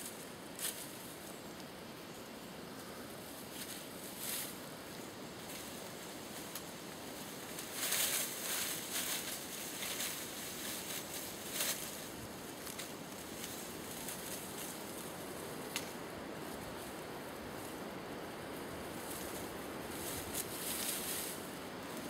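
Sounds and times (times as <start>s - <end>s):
rustling in dry leaves: 0.0s - 22.0s
steady background hiss: 0.0s - 22.0s.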